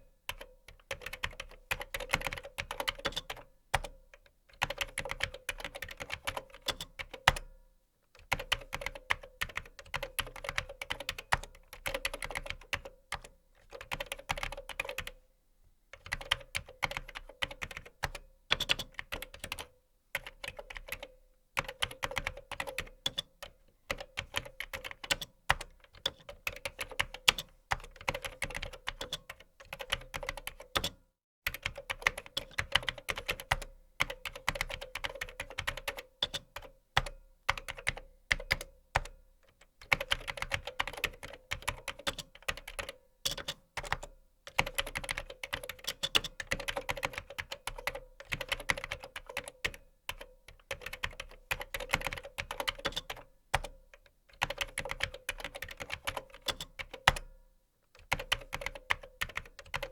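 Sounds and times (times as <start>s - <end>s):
typing on computer keyboard: 0.3s - 7.5s, 8.2s - 15.2s, 16.0s - 57.4s, 58.0s - 59.9s.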